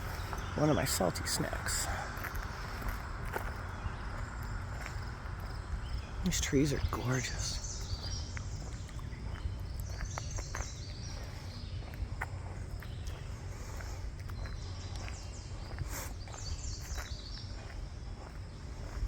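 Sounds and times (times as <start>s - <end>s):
birds singing: 0.0s - 19.0s
footsteps on a path: 0.0s - 19.0s.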